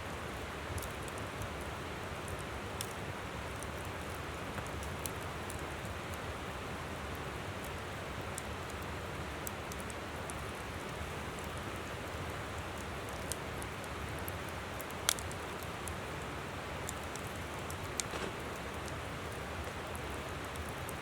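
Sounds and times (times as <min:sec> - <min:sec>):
campfire crackling: 0:00.1 - 0:21.0.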